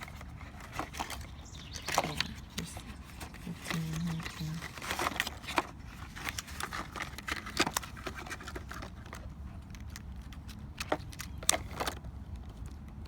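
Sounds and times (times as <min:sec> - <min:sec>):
packaging clicks and rustles: 0:00.0 - 0:13.0.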